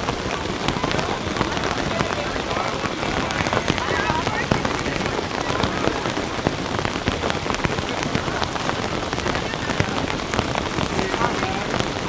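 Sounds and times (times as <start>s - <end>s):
rain drops ticking on surface: 0.0s - 12.0s
rain hiss: 0.0s - 12.0s.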